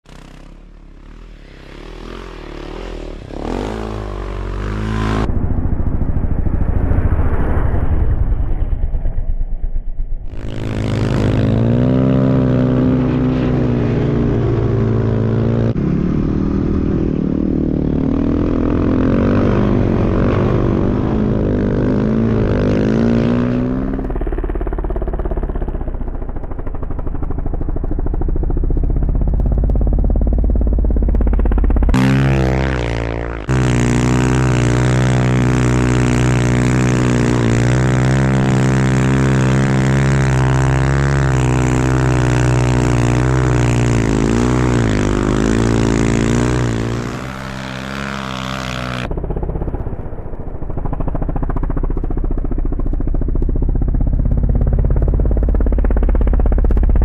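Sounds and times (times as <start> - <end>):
snow bike engine revving: 0.1 - 7.6, 10.2 - 49.7, 50.9 - 57.0.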